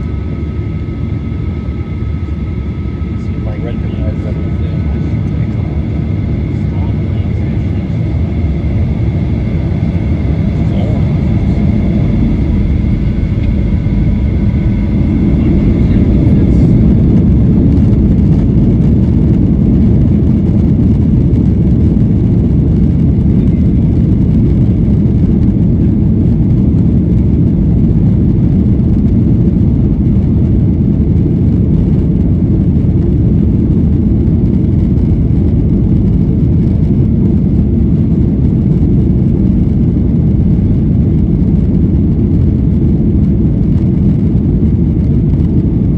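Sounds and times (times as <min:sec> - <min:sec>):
aircraft cabin engine rumble: 0:00.0 - 0:45.9
high whine: 0:00.0 - 0:45.9.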